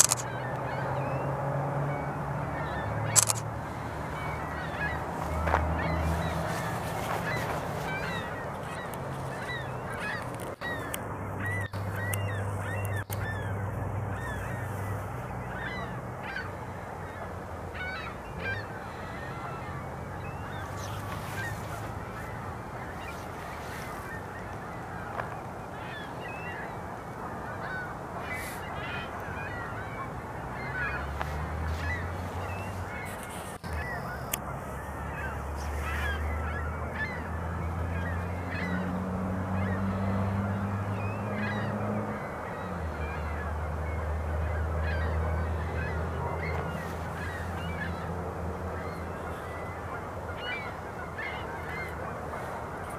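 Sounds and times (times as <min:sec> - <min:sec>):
geese honking: 0:00.0 - 0:52.9.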